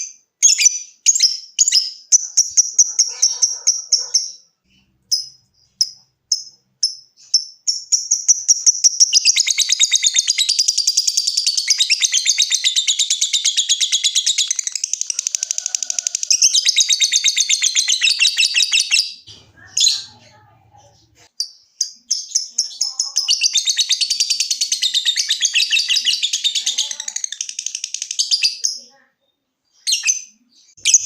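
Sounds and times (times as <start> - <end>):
bird high sharp chirps: 0.0 - 31.0
bird rapid chattering trill: 1.7 - 4.4, 5.1 - 20.8, 21.8 - 28.9.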